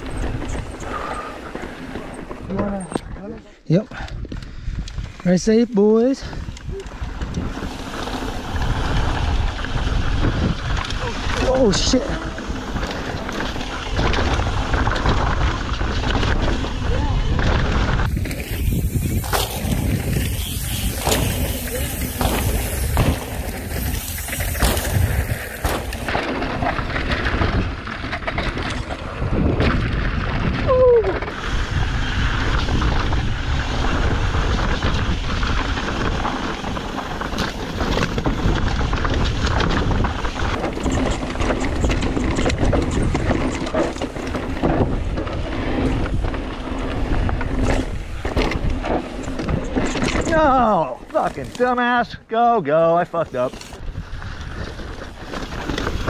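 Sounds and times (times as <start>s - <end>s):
bike rattling over rocks: 0.0s - 3.5s, 4.2s - 56.0s
wind on microphone: 0.0s - 5.5s, 6.2s - 51.5s, 53.8s - 56.0s
bike tyres rolling: 0.0s - 56.0s.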